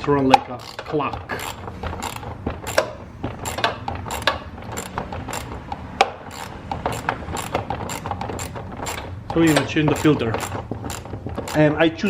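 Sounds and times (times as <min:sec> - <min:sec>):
socket ratchet clicking: 0:00.3 - 0:11.9.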